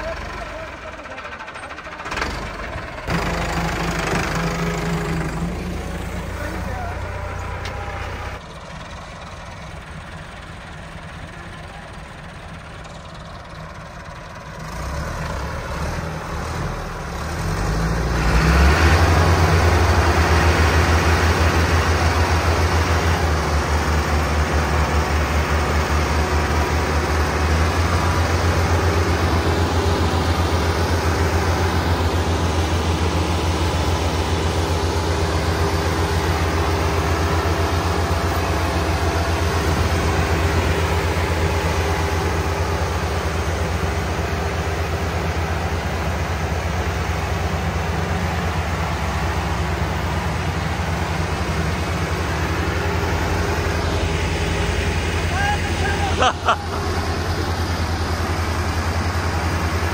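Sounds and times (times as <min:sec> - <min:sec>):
tractor diesel engines working hard: 0:00.0 - 0:59.9.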